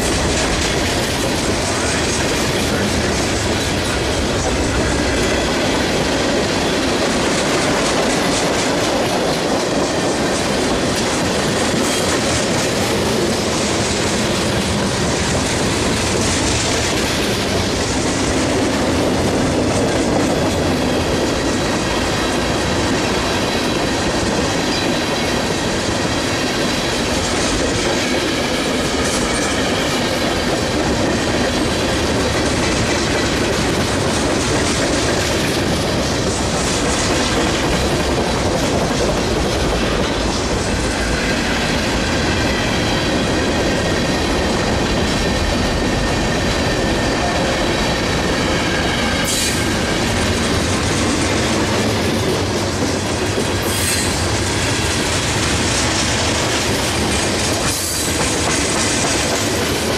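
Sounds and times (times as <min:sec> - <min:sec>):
freight cars rumbling on rails: 0:00.0 - 0:59.9.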